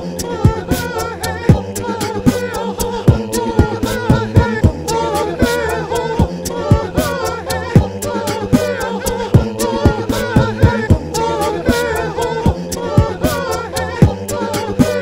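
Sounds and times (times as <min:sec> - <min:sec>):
beatboxed drum pattern: 0:00.0 - 0:15.0
sung vocal harmonies: 0:00.0 - 0:15.0.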